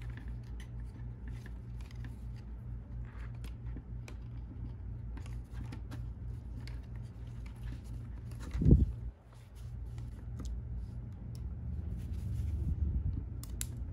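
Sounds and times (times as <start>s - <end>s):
low pulsing hum: 0.0s - 13.9s.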